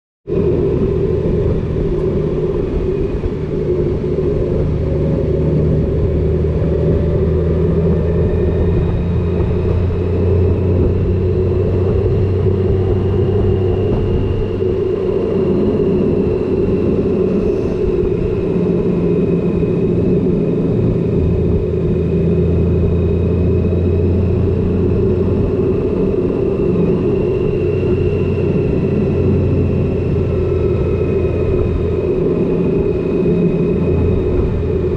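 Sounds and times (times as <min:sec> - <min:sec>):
wind and road noise: 0:00.2 - 0:34.9
motorcycle engine cruising: 0:00.3 - 0:34.9.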